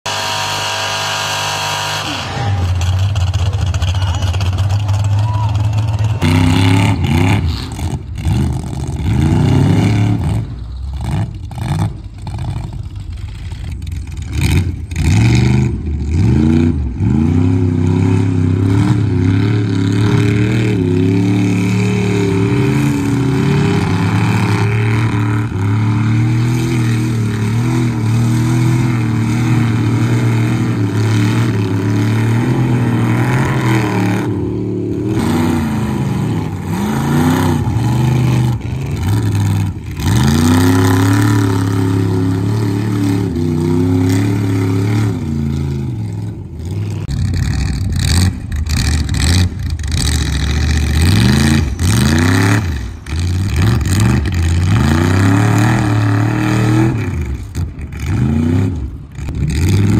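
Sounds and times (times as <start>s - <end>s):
truck engine revving: 0.0s - 59.9s
truck churning through mud: 0.1s - 59.9s.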